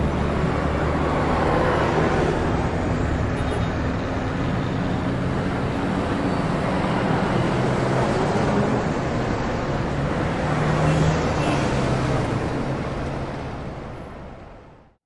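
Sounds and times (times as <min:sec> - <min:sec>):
cars passing: 0:00.0 - 0:14.8
traffic rumble: 0:00.0 - 0:14.9.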